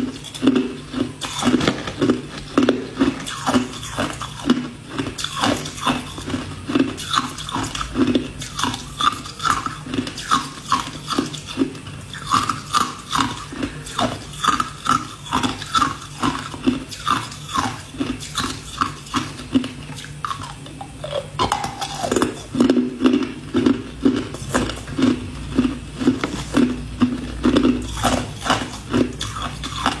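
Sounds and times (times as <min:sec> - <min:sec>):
ice cubes crunched by chewing: 0:00.0 - 0:30.0.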